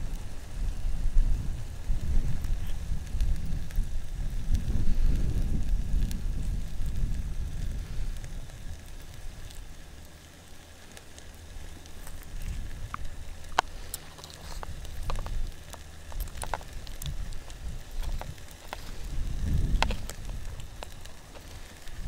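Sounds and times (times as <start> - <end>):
campfire crackling: 0.0 - 22.0
low rumble: 0.0 - 22.0
sharp fire pops: 0.0 - 22.0.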